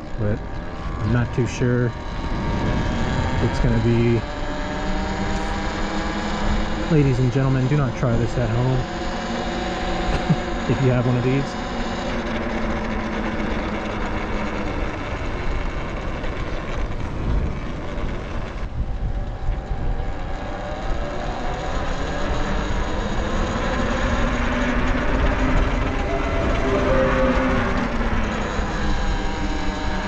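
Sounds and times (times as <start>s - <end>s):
wind rumble on microphone: 0.0s - 8.8s, 13.4s - 30.0s
electric motor and chain whine: 0.0s - 30.0s.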